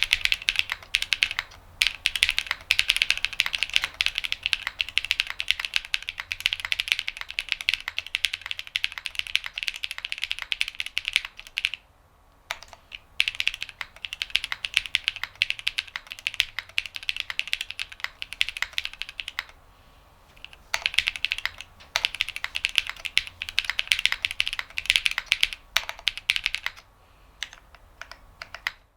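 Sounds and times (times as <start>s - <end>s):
mechanical keyboard typing: 0.0s - 11.8s, 12.5s - 19.6s, 20.3s - 28.9s.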